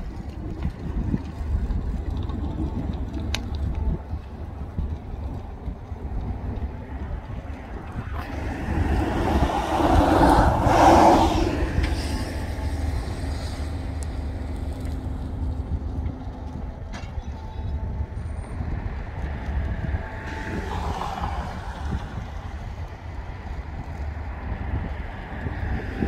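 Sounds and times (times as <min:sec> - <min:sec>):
highway traffic rumble: 0:00.0 - 0:26.0
wind on microphone: 0:00.0 - 0:26.0
vehicle passing: 0:04.6 - 0:26.0.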